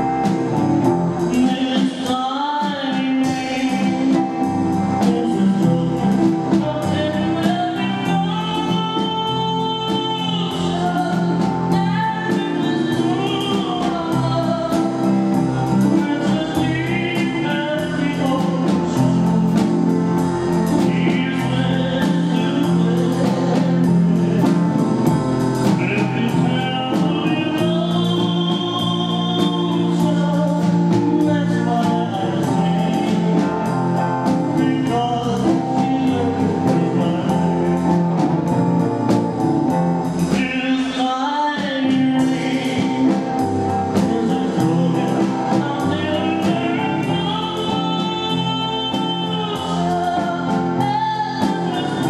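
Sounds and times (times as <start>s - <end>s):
man singing: 0.0s - 39.0s, 39.7s - 52.0s
drums: 0.0s - 52.0s
electric guitar: 0.0s - 52.0s
upright double bass: 0.0s - 52.0s.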